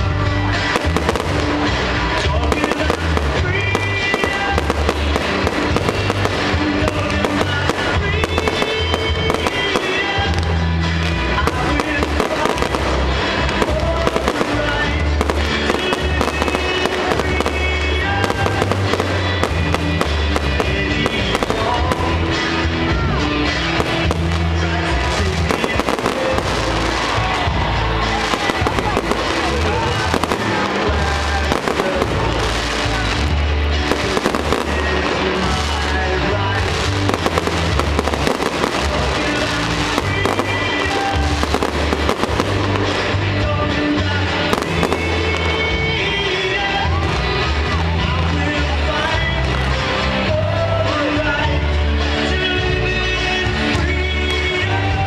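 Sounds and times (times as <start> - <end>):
fireworks exploding: 0.0 - 51.2
loud music with bass: 0.0 - 55.0.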